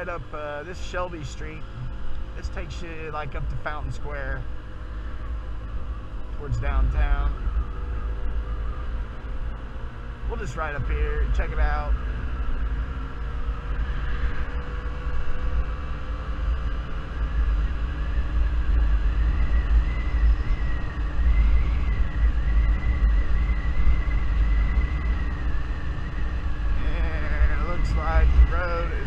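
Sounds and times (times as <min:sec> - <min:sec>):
scooter engine whine: 0:00.0 - 0:29.0
wind rumble on microphone: 0:01.0 - 0:29.0.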